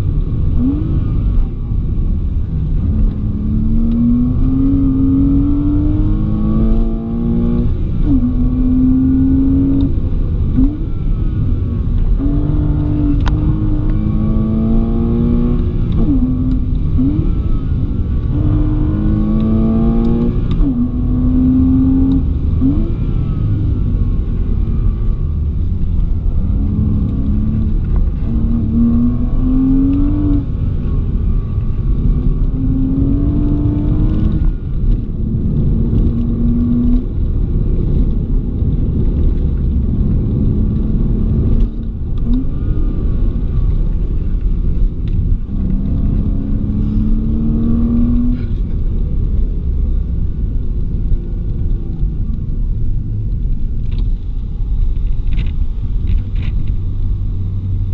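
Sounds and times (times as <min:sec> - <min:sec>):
car engine accelerating: 0:00.0 - 0:57.9
road and wind noise: 0:00.0 - 0:57.9.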